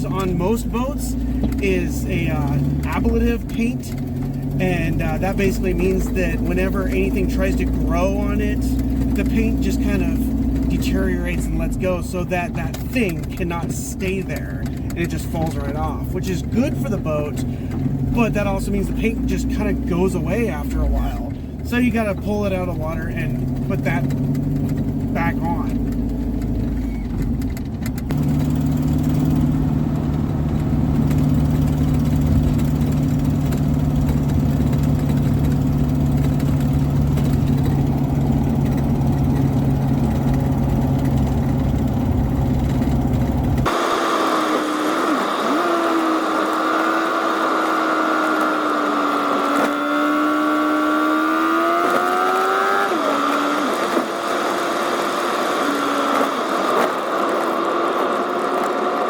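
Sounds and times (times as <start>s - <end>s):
low engine drone: 0.0s - 47.5s.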